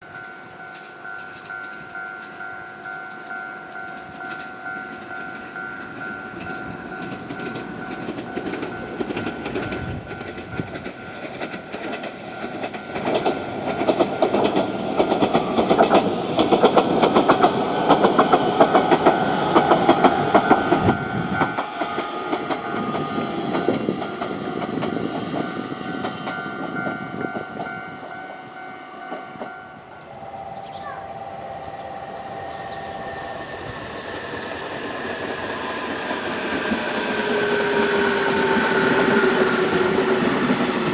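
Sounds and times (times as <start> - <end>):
train wheels clattering over rail joints: 0.7 - 28.4, 33.9 - 40.9.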